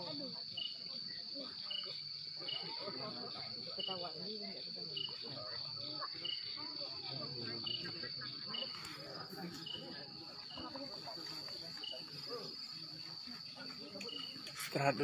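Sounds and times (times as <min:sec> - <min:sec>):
distant people talking: 0:00.0 - 0:15.0
insect chirp: 0:00.0 - 0:15.0
insects trilling: 0:00.1 - 0:15.0.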